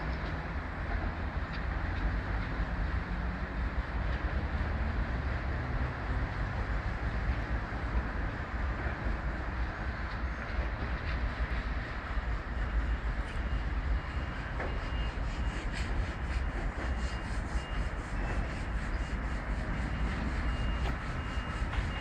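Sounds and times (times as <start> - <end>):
locomotive rumbling: 0.0 - 22.0
train wheel noise: 0.0 - 22.0.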